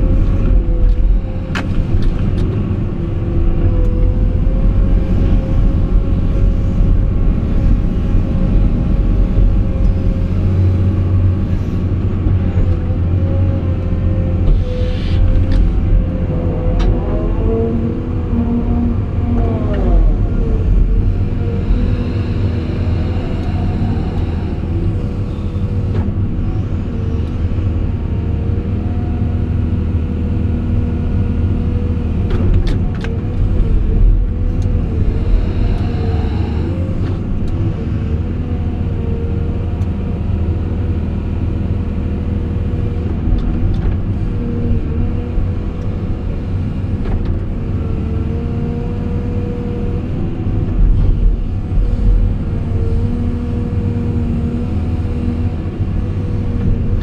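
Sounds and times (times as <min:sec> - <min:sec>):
excavator diesel engine rumble: 0:00.0 - 0:57.0.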